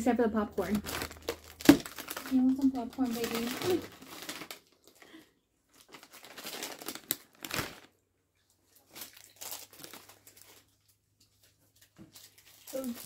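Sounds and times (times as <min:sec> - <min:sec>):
plastic bag crinkling: 0:00.6 - 0:08.0, 0:08.6 - 0:13.0.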